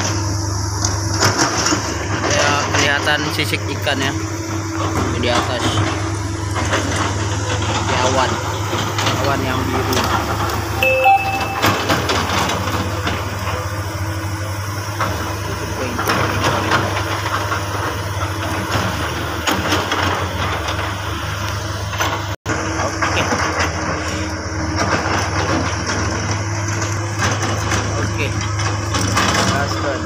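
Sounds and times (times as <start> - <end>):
excavator diesel engines running: 0.0 - 30.0.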